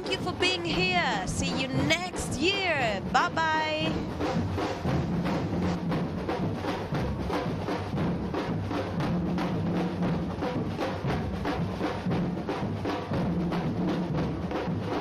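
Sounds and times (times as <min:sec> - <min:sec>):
drum group playing: 0:00.0 - 0:15.0.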